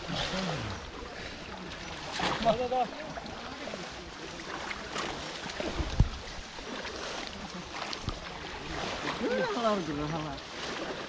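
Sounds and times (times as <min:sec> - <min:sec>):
pond water sloshing and splashing: 0:00.0 - 0:11.0.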